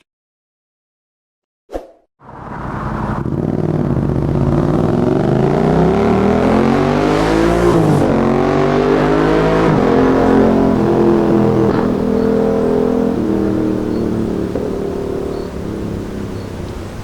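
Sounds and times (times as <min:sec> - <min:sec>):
motorcycle engine accelerating hard: 0:02.2 - 0:17.0.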